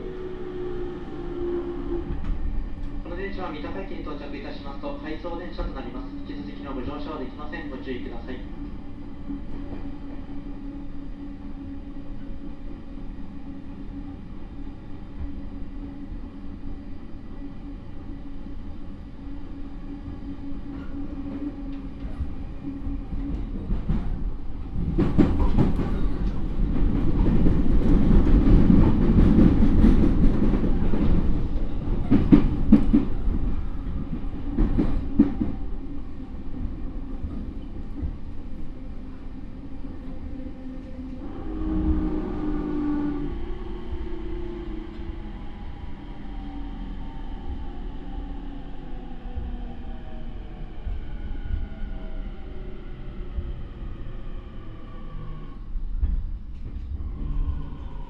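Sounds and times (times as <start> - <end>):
wheels rumbling on rail: 8.5 - 58.0.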